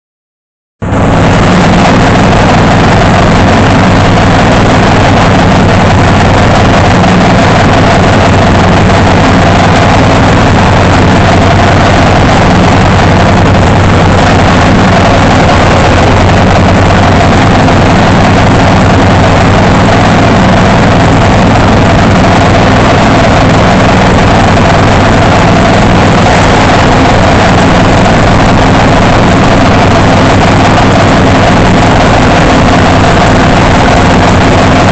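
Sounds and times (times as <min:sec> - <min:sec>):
riding mower engine running: 0:00.8 - 0:34.9.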